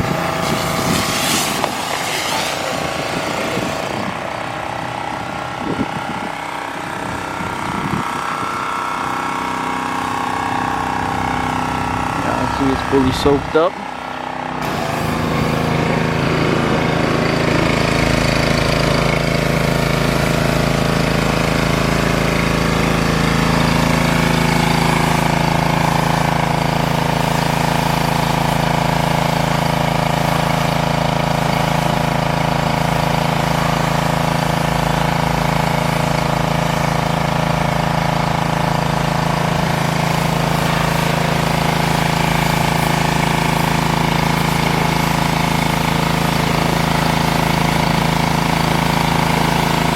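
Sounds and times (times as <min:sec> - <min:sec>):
high-pressure water spray hissing: 0:00.0 - 0:05.3, 0:14.6 - 0:49.9
pressure washer engine running: 0:00.0 - 0:49.9.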